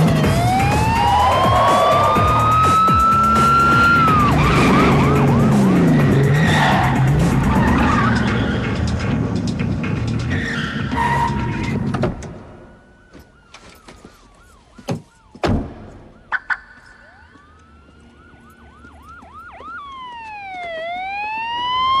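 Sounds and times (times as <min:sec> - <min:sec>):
car engine and tyre noise: 0:00.0 - 0:22.0
police sirens wailing and yelping: 0:00.0 - 0:22.0.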